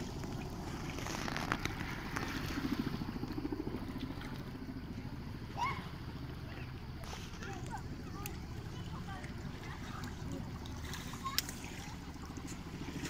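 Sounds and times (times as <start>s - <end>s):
distant helicopter rotor beating: 0.0s - 13.0s.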